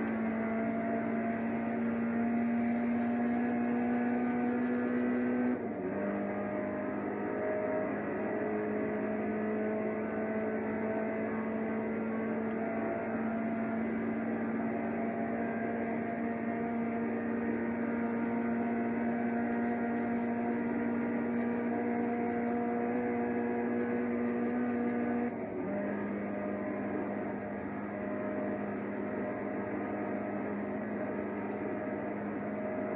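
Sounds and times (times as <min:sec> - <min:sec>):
car engine accelerating hard: 0:00.0 - 0:32.9.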